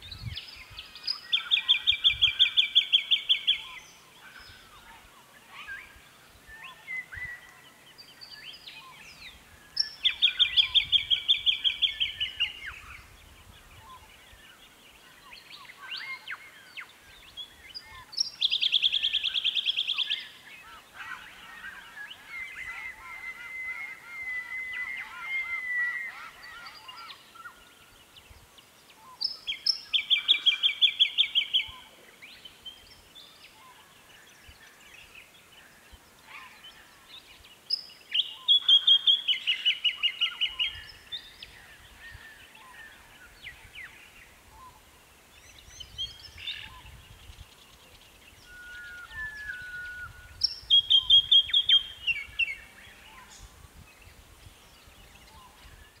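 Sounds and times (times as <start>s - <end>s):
bird singing: 0.0s - 56.0s
faint bird calls: 0.1s - 28.3s, 28.9s - 53.8s.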